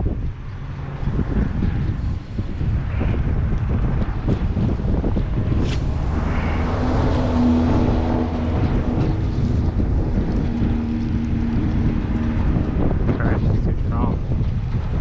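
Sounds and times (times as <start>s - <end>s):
engine hum: 0.0s - 15.0s
wind buffeting microphone: 0.0s - 15.0s.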